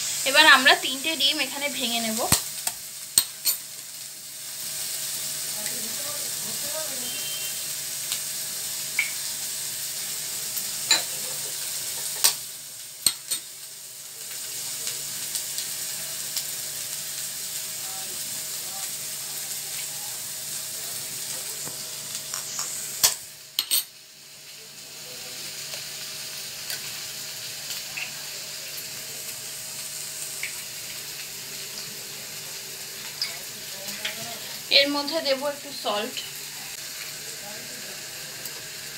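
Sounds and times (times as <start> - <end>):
chicken sizzling in oil: 0.0 - 38.9.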